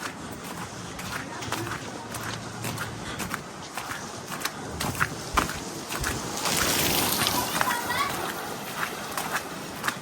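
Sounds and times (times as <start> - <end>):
city street noise: 0.0 - 10.0.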